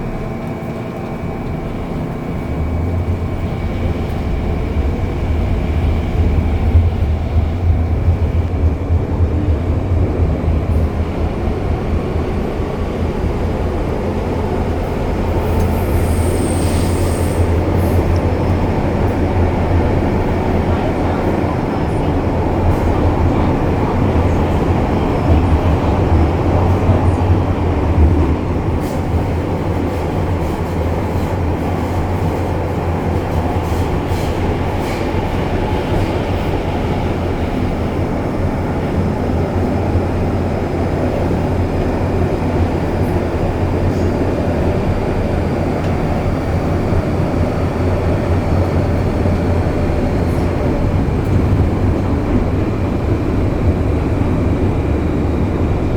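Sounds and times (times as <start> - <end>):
metro train rail rumble: 0.0 - 55.9.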